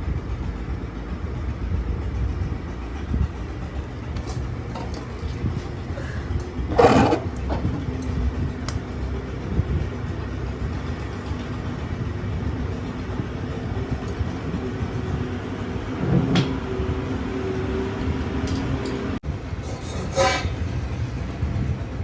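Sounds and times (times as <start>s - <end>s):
low mechanical rumble: 0.0s - 19.8s.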